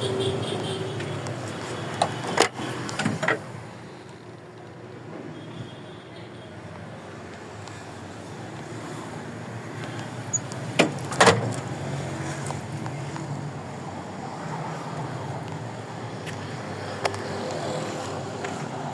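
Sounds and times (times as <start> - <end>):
traffic hum: 0.0 - 18.9.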